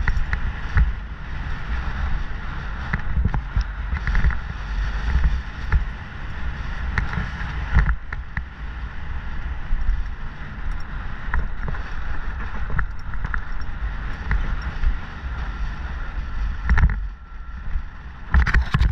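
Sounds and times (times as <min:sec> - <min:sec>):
bike rattling: 0:00.0 - 0:18.9
wind buffeting microphone: 0:00.0 - 0:18.9.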